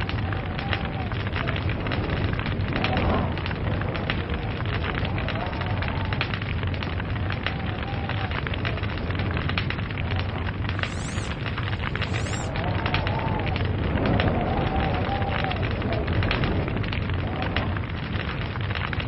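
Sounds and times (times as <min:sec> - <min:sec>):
log fire pops and snaps: 0:00.0 - 0:19.0
low rumble of burning: 0:00.0 - 0:19.0.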